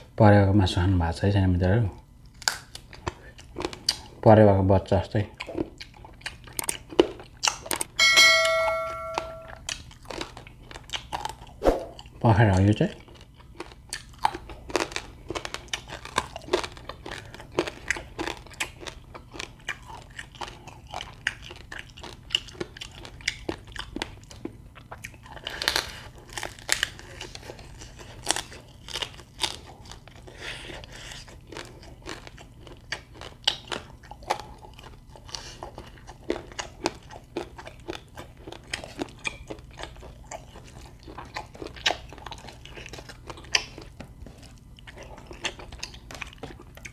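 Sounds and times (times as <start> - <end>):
person chewing and crunching bones: 1.9 - 46.9.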